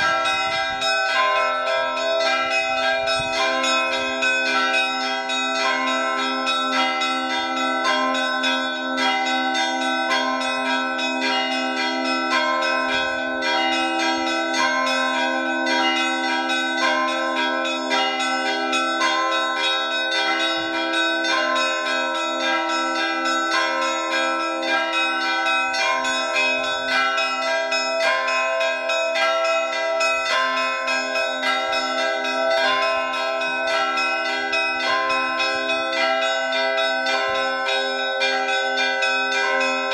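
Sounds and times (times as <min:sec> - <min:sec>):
large bells ringing: 0:00.0 - 0:39.9
low bell steady beat: 0:00.0 - 0:39.9
small bells rapid pealing: 0:00.0 - 0:39.9.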